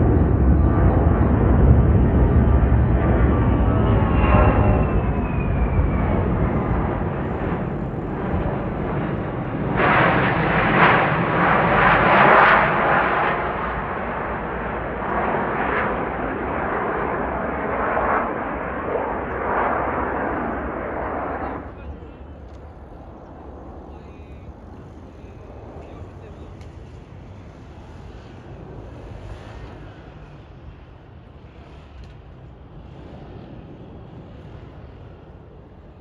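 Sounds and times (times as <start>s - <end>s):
jet aircraft passing overhead: 0.0s - 36.0s.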